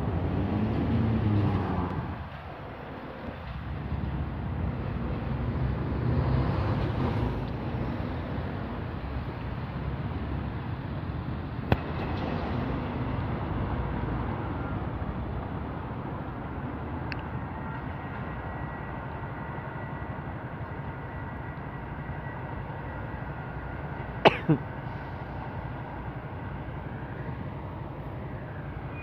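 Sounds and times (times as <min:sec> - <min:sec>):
road traffic rumble: 0:00.0 - 0:29.0
tram running: 0:00.0 - 0:29.0.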